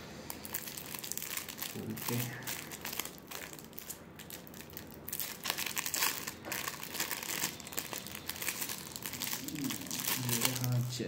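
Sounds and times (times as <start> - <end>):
plastic packet crinkling: 0.3 - 11.0.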